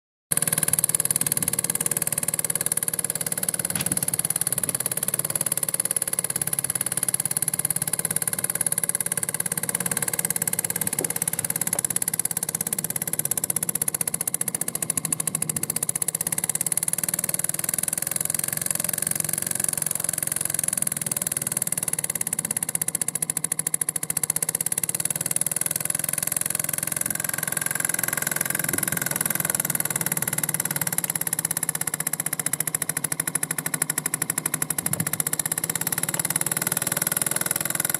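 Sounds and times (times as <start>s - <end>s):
model steam engine running: 0.3s - 37.9s.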